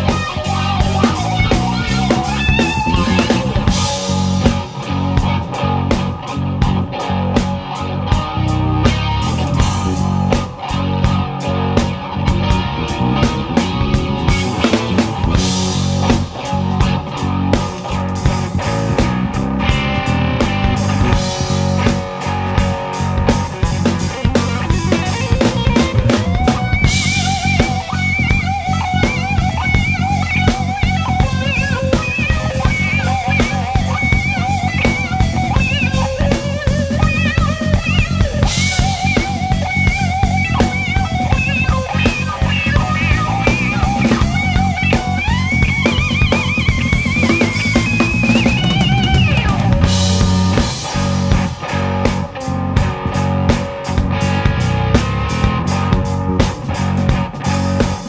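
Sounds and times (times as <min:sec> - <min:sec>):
bass guitar: 0:00.0 - 0:58.0
drum kit beat: 0:00.0 - 0:58.0
electric guitar lead: 0:00.0 - 0:58.0.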